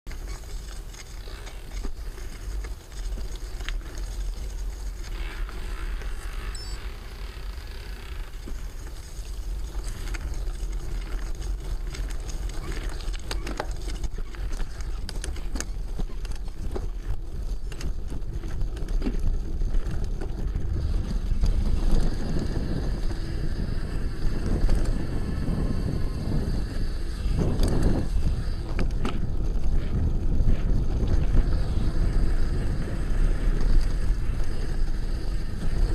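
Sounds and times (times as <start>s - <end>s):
bike clicks and rattles: 0.1s - 35.9s
bike tyre noise on trail: 0.1s - 35.9s
wind buffeting microphone: 0.1s - 35.9s.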